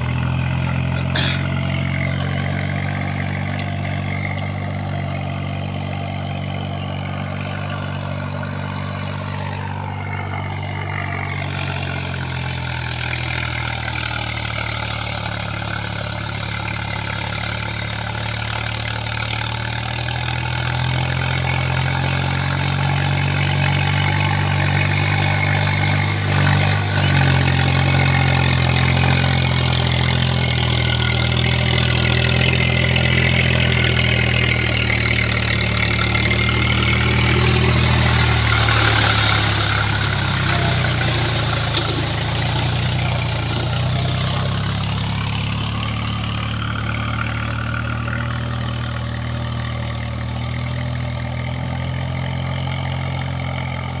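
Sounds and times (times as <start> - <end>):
tractor diesel engine running: 0.0 - 54.0
wheels churning mud and water: 0.0 - 54.0.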